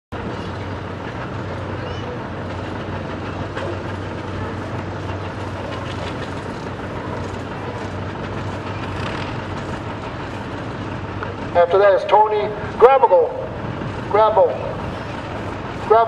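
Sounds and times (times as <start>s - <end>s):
tractor engine running: 0.1s - 16.0s.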